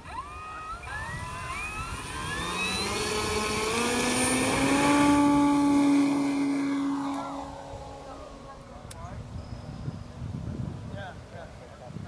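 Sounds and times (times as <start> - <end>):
model plane motor whine: 0.0 - 10.4.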